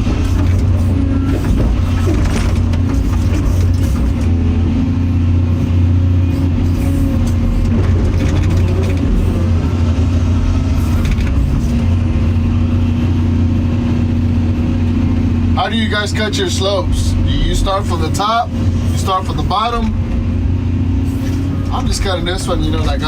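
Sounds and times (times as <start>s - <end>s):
excavator diesel engine under load: 0.0s - 23.0s.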